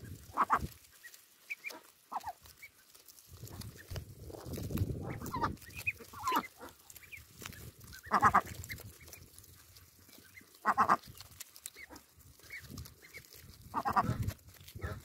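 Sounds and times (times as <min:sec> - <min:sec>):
bills clicking among leaves: 0:00.0 - 0:15.0
ducklings peeping: 0:00.0 - 0:15.0
low rustle: 0:00.0 - 0:15.0.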